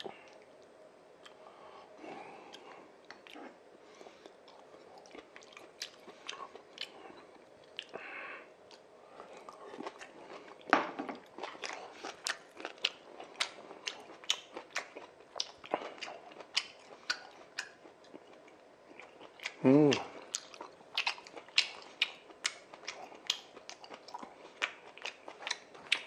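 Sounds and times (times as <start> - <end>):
person chewing noodles: 0.0 - 26.0.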